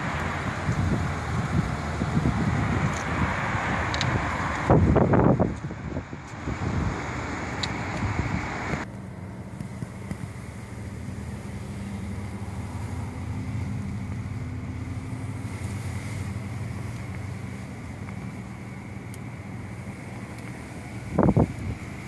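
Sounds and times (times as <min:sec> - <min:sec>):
wind buffeting microphone: 0:00.0 - 0:08.9, 0:12.4 - 0:22.0
car engine idling: 0:00.0 - 0:22.0.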